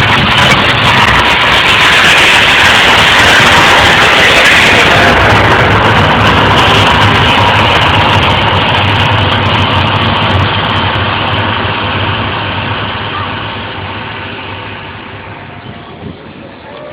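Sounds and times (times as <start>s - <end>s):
loud rushing roar: 0.0s - 16.9s
low hum: 0.0s - 16.9s.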